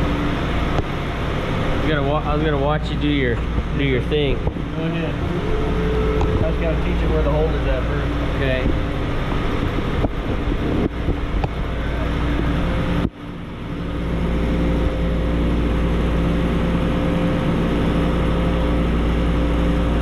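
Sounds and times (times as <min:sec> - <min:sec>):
grinding machine hum: 0:00.0 - 0:20.0.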